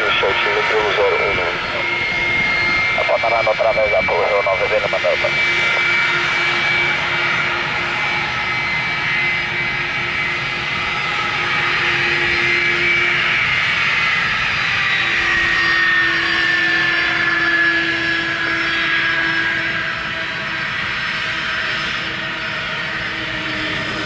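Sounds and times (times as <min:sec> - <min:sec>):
high engine whine: 0:00.0 - 0:24.0
jet engines running: 0:00.0 - 0:24.0.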